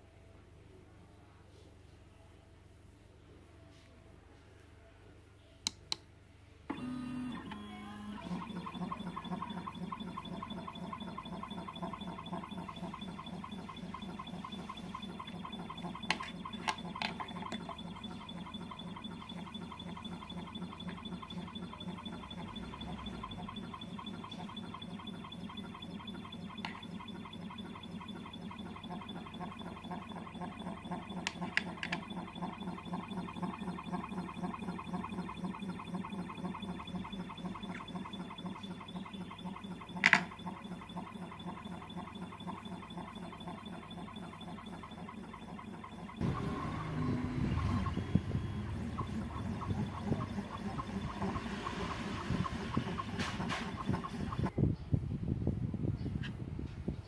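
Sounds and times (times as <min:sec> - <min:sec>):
cnc router motor whine: 0:06.7 - 0:54.6.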